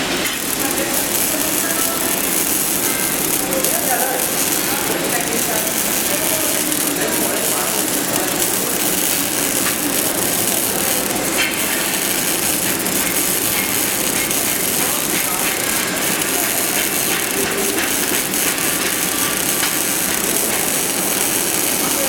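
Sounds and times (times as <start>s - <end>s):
welding arc crackling and hissing: 0.0s - 22.0s
sputtering pops: 0.2s - 22.0s.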